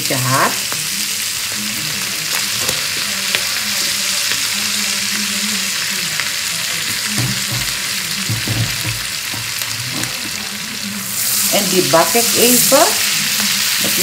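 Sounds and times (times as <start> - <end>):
butter sizzling in frying pan: 0.0 - 14.0.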